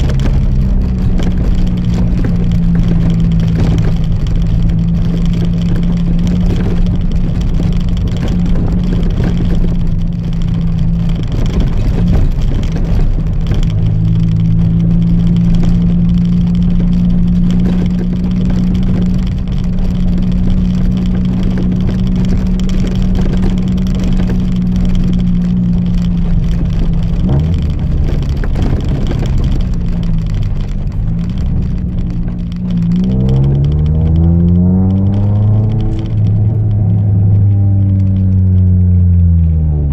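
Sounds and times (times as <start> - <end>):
car engine through open exhaust: 0.0 - 39.9.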